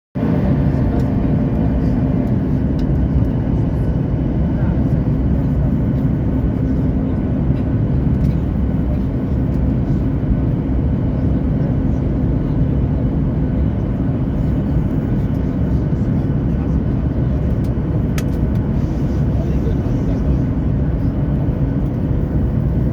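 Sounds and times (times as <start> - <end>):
jet aircraft roar: 0.2 - 22.9.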